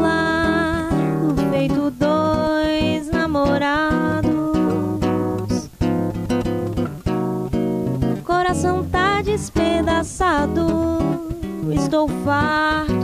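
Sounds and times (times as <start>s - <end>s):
woman singing: 0.0s - 5.7s, 8.2s - 13.0s
acoustic guitar: 0.0s - 13.0s.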